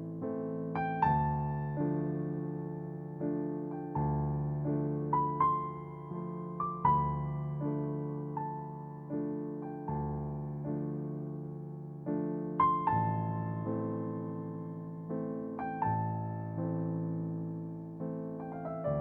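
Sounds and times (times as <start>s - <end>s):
gentle electric piano music: 0.0s - 19.0s.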